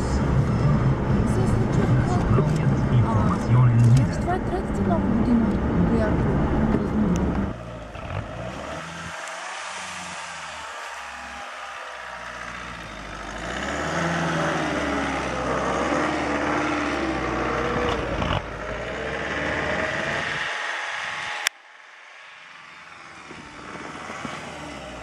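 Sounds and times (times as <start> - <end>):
car engine revving under load: 0.0 - 25.0.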